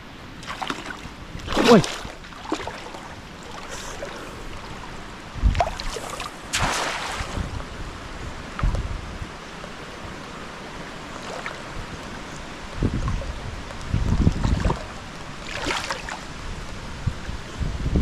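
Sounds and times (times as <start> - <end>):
rain: 0.0 - 18.0
running water: 0.4 - 17.5
wind buffeting microphone: 0.9 - 10.3, 11.6 - 18.0.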